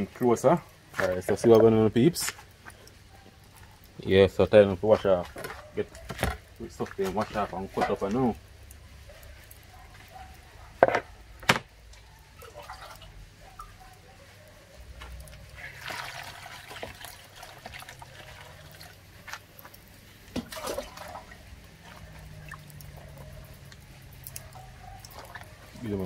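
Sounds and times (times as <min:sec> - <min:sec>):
water splashing and trickling: 0:00.0 - 0:26.0.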